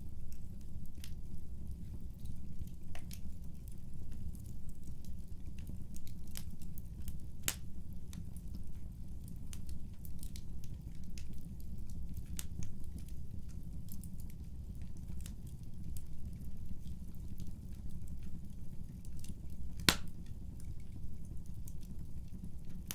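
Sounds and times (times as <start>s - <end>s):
low rumble of flames: 0.0s - 22.9s
wood fire snaps and pops: 0.1s - 22.9s.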